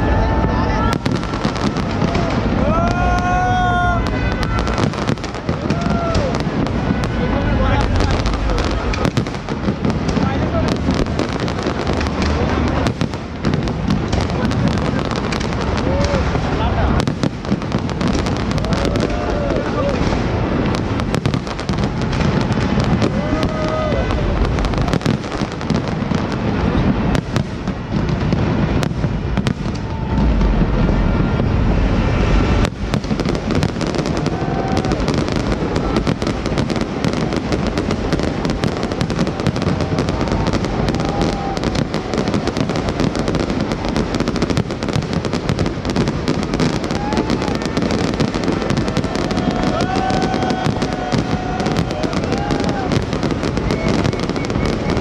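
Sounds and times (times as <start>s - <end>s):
deep fireworks booms: 0.0s - 55.0s
fireworks crackling: 0.0s - 55.0s.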